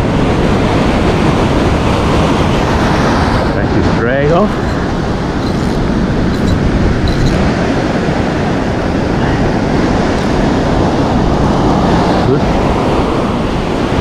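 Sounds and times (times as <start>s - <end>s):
surf rushing: 0.0s - 14.0s
wind buffeting microphone: 0.0s - 14.0s.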